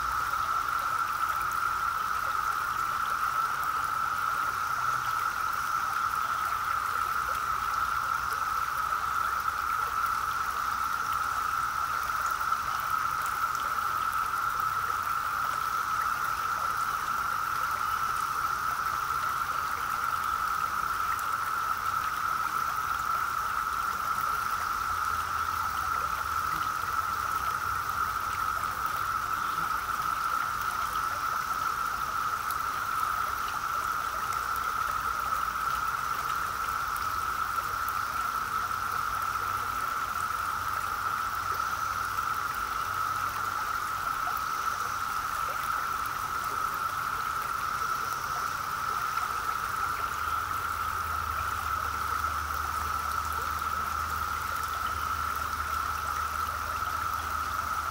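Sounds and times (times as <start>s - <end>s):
cicadas droning: 0.0s - 57.9s
stream babbling over rocks: 0.0s - 57.9s.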